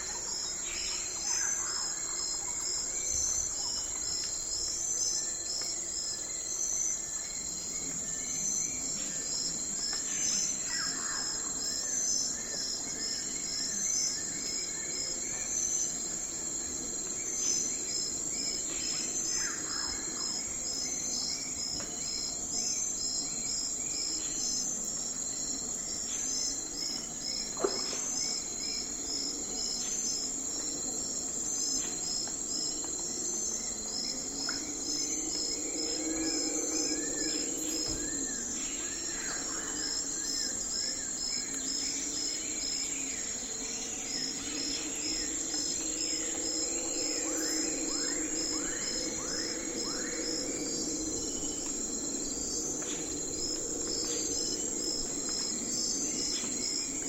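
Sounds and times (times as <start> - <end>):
crickets and insects chirping: 0.0 - 57.0.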